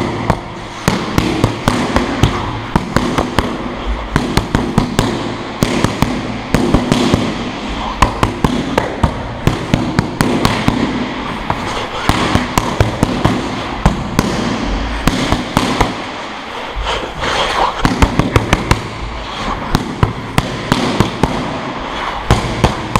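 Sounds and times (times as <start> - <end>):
boxing gloves slapping mitts: 0.0 - 7.4, 8.0 - 16.1, 17.7 - 19.0, 19.6 - 22.9.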